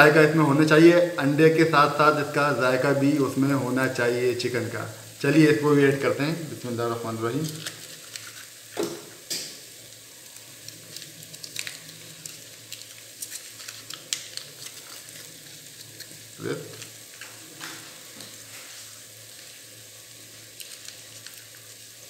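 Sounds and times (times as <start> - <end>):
spices sizzling in oil: 0.0 - 22.0.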